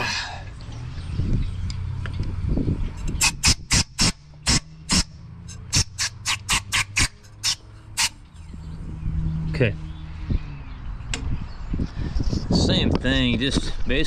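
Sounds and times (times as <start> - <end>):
low shop hum: 0.0 - 12.5.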